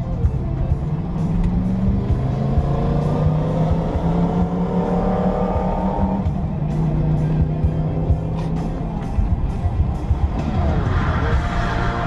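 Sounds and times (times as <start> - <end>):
background music: 0.0 - 12.0
vehicle engine accelerating: 0.0 - 12.0.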